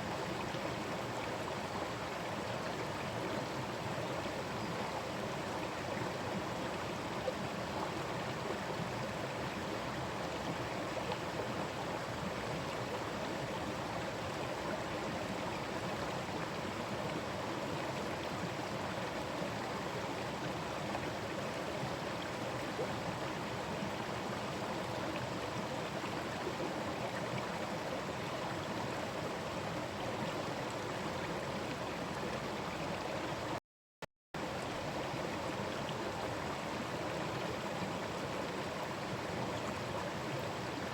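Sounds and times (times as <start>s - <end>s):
stream water rushing and gurgling: 0.0s - 33.6s, 34.4s - 40.9s.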